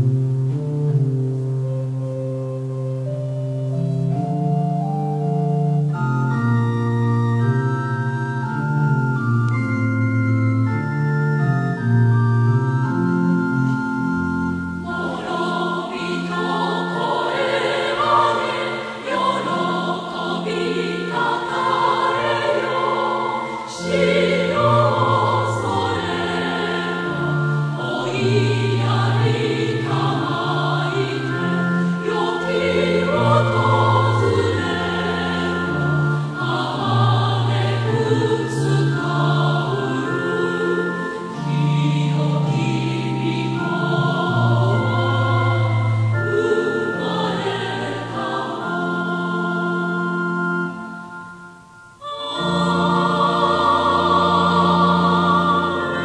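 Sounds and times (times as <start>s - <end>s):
choir singing a hymn: 8.3s - 56.0s.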